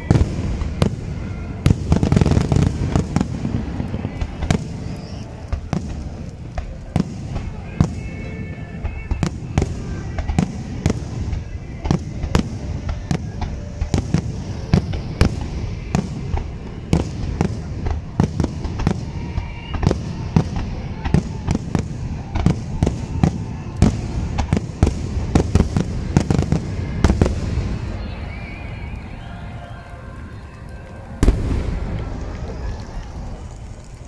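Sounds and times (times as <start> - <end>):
continuous low rumble: 0.0 - 34.0.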